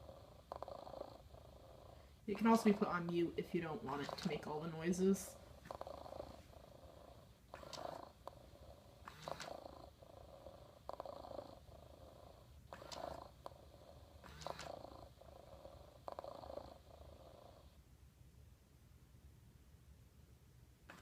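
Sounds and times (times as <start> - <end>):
robot cat electronic purr: 0.0 - 17.8.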